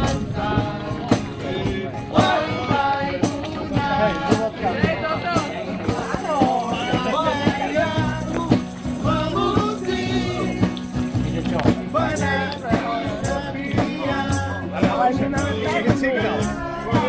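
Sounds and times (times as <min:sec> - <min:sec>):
song with singing voice: 0:00.0 - 0:17.0
steady beat and bass line: 0:00.0 - 0:17.0.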